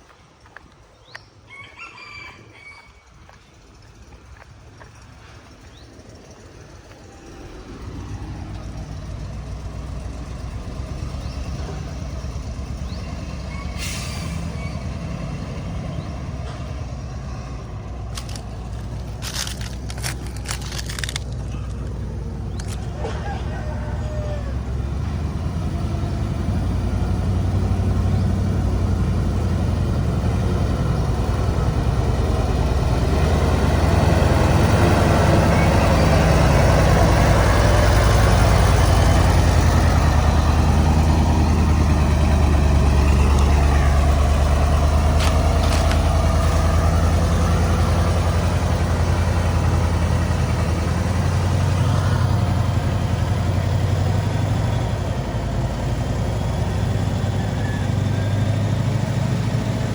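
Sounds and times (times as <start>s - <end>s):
heavy diesel engine working: 3.9s - 59.9s.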